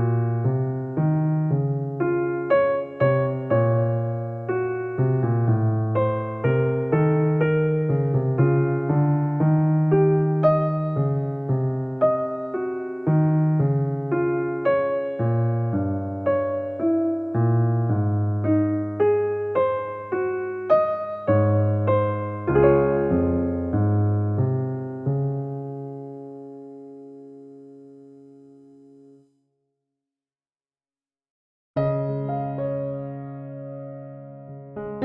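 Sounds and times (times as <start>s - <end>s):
solo electric piano: 0.0s - 29.3s, 31.8s - 35.0s.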